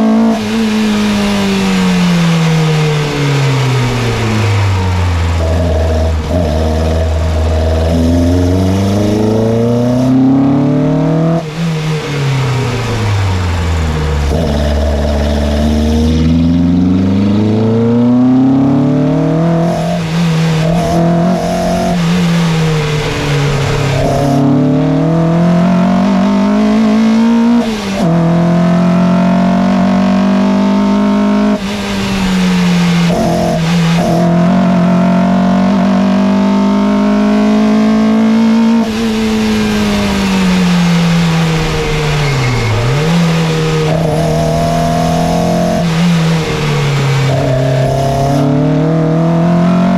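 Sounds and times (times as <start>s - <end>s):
car engine revving hard: 0.0s - 49.9s.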